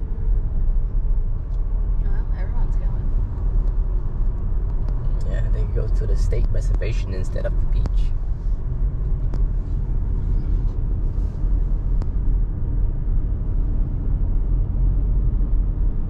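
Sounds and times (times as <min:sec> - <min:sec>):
car road noise: 0:00.0 - 0:16.0.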